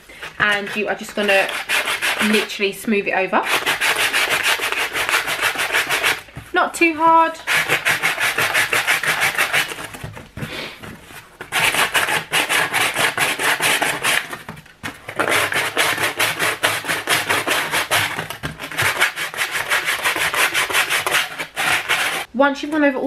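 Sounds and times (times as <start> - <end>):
sandpaper rubbing cardboard: 0.2 - 2.5, 3.4 - 6.3, 7.4 - 14.5, 15.1 - 22.3.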